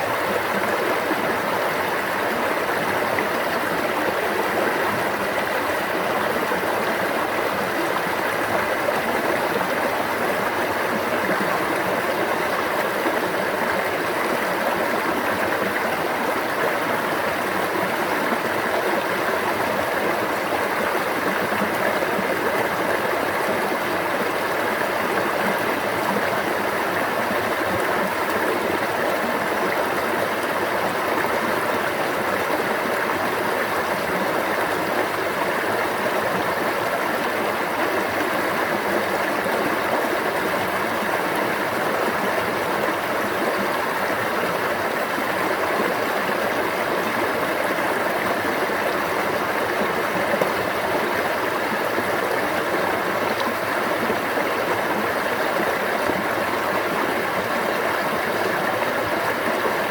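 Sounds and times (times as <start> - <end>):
stream of water babbling: 0.0 - 59.9.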